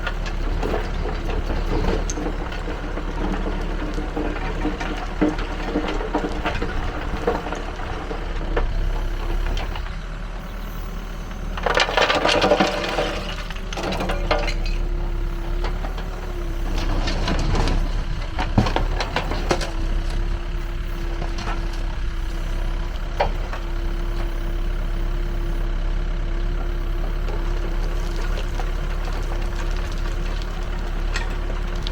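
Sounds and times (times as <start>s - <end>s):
soil and rubble rattling in bucket: 0.0s - 10.2s, 11.3s - 25.3s, 26.0s - 31.9s
diesel engine running: 0.0s - 31.9s.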